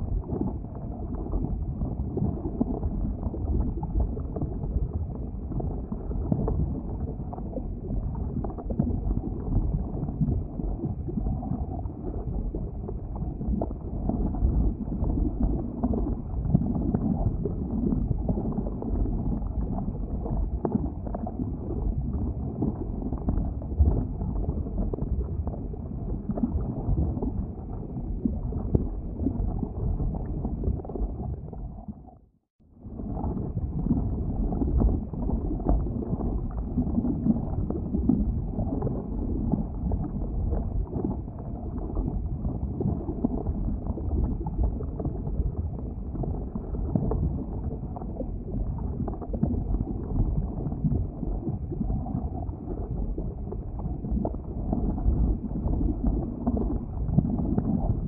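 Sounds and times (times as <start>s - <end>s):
lava crackling and popping: 0.0s - 32.2s, 32.9s - 58.0s
boiling lava rumbling: 0.0s - 58.0s.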